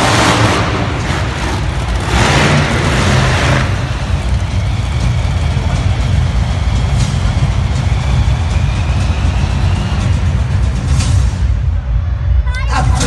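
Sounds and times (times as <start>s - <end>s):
monster truck engines revving: 0.0s - 11.6s.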